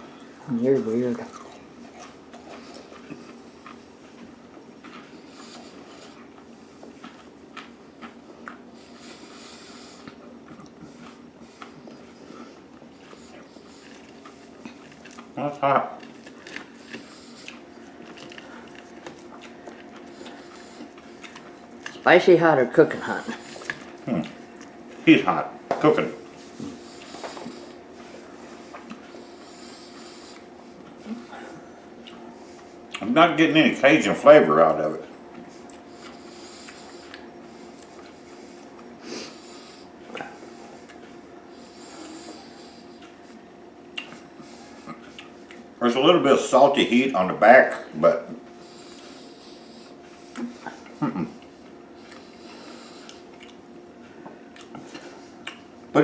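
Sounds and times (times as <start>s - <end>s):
faint steady hum: 0.0s - 56.0s
person chewing crispy food: 0.1s - 22.1s, 22.8s - 25.1s, 26.1s - 33.1s, 35.0s - 45.8s, 48.6s - 55.8s.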